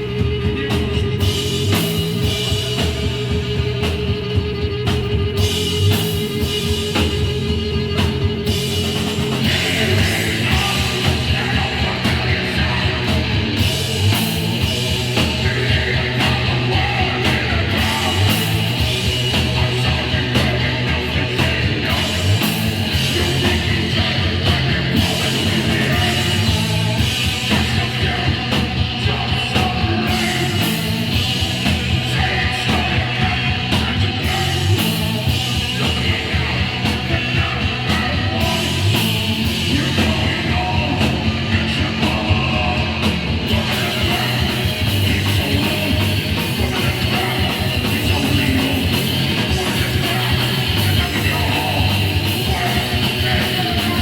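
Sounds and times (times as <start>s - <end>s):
bass guitar: 0.0s - 54.0s
distorted electric guitar: 0.0s - 54.0s
drums: 0.0s - 54.0s.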